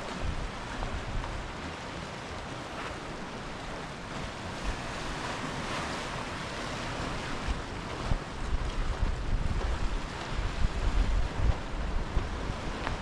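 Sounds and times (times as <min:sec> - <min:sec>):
sea surf washing ashore: 0:00.0 - 0:13.0
wind buffeting microphone: 0:00.0 - 0:13.0.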